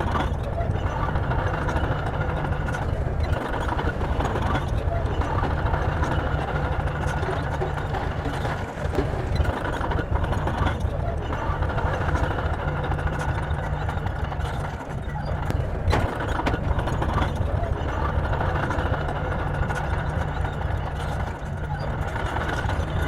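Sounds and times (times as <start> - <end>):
diesel engine low rumble: 0.0 - 23.0.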